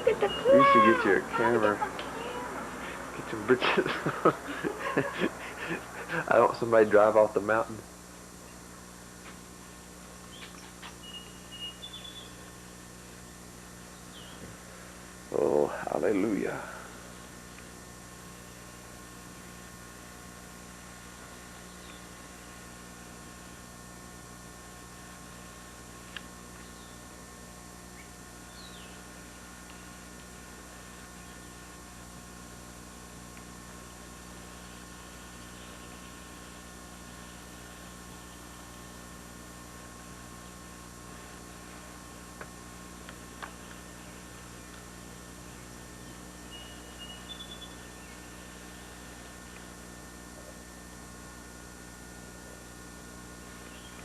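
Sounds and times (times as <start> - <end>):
camcorder hum and hiss: 0.0 - 54.0.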